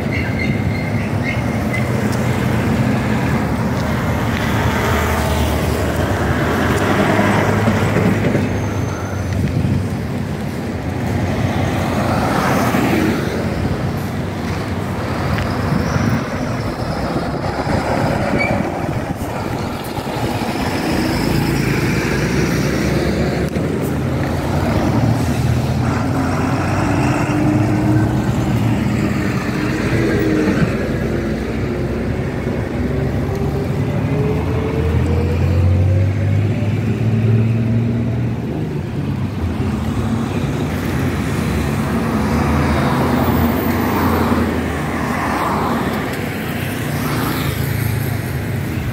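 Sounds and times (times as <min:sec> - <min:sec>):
vehicles driving past: 0:00.0 - 0:48.9.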